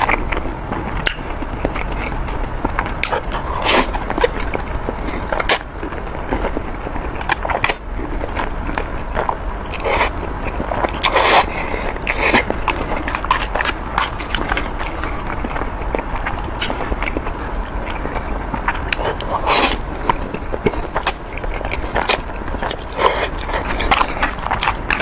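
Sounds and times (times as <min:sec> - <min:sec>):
noodles slurped and chewed: 0:00.0 - 0:25.0.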